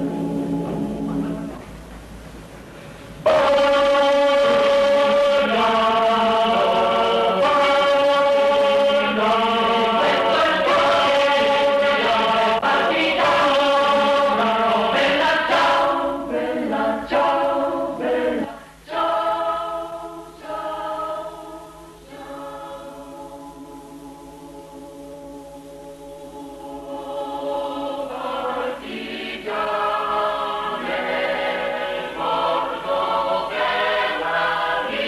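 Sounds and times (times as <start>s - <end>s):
choir singing a cappella: 3.2s - 35.0s.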